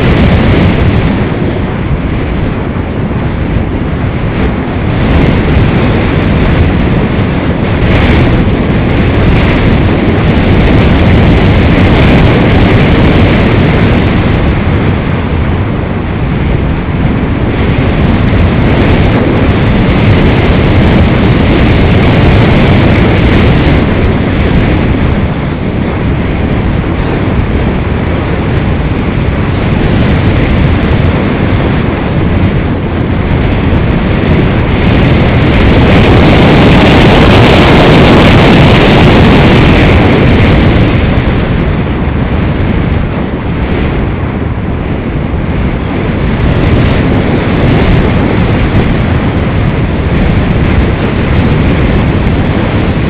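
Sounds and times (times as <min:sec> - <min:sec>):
airflow buffeting microphone: 0:00.0 - 0:53.0.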